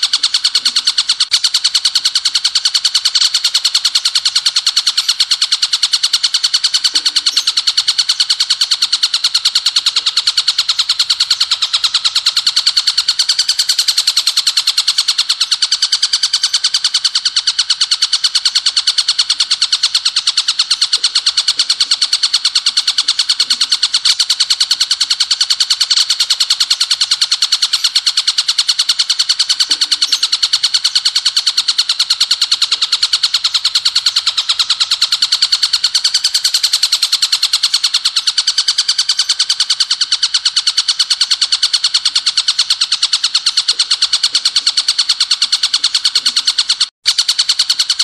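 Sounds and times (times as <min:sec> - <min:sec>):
bird song rapid rattle: 0:00.0 - 0:48.0.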